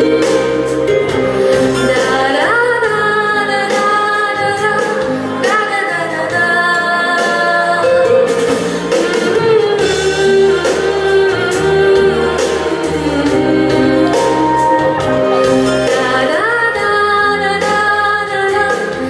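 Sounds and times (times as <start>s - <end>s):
recorded backing track: 0.0s - 19.0s
woman singing wordless ballad: 0.0s - 19.0s.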